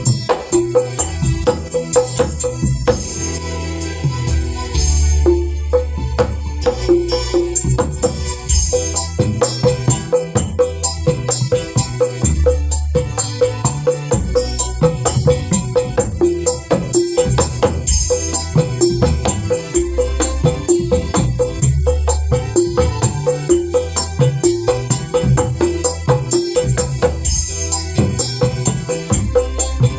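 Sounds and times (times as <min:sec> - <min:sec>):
hand drums fast rhythm: 0:00.0 - 0:03.2, 0:04.8 - 0:29.9
backing track with bass: 0:00.0 - 0:29.9
jingling percussion: 0:00.0 - 0:29.9.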